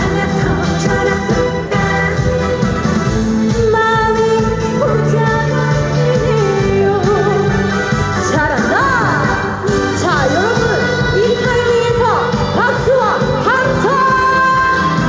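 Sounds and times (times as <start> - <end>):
amplified backing music: 0.0 - 15.0
woman singing with vibrato: 0.0 - 15.0.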